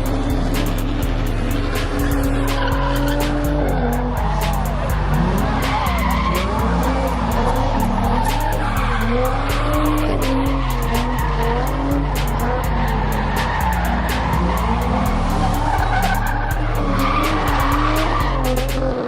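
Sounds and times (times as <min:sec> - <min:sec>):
car engine revving: 0:00.0 - 0:19.0
music with heavy bass and hi-hats: 0:00.0 - 0:19.0
tires squealing: 0:00.0 - 0:19.0.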